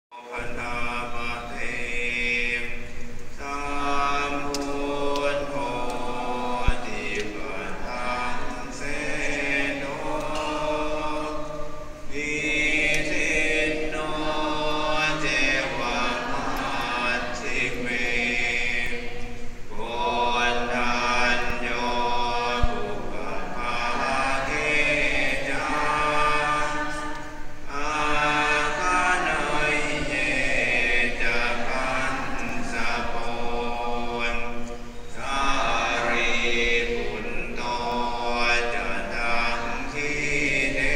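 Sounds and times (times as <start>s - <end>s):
male voices chanting in unison: 0.2s - 40.9s.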